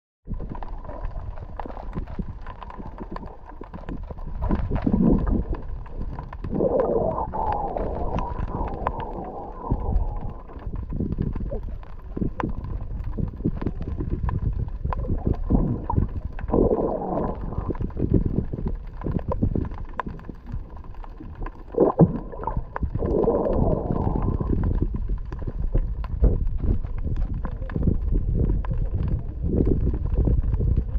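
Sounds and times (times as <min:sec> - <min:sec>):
muffled underwater water sloshing: 0:00.3 - 0:30.9.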